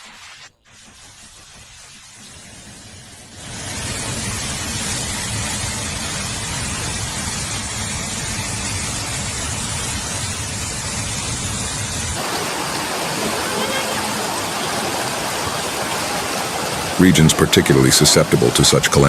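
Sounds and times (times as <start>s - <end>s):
running floodwater: 0.0s - 19.0s
heavy rain: 2.1s - 19.0s.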